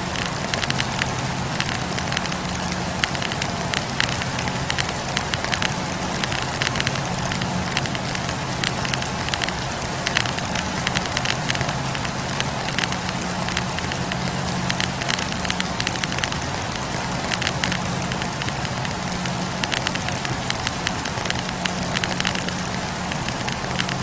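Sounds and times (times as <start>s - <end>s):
fire crackles and pops: 0.0s - 24.0s.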